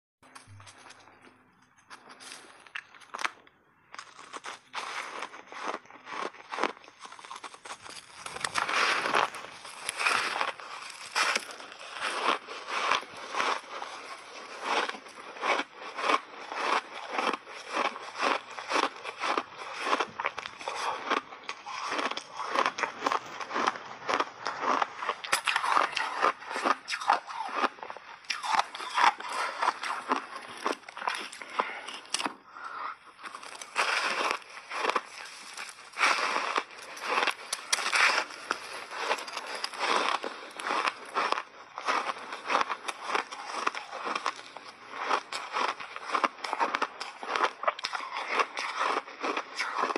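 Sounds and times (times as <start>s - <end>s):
crunching bites into ice: 2.2s - 32.4s, 33.2s - 49.9s.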